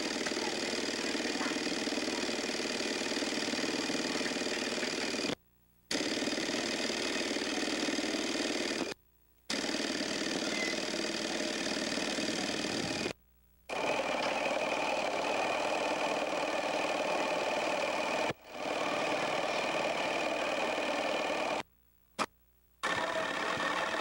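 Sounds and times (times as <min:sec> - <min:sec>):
small engine buzzing: 0:00.0 - 0:21.7, 0:22.8 - 0:24.0.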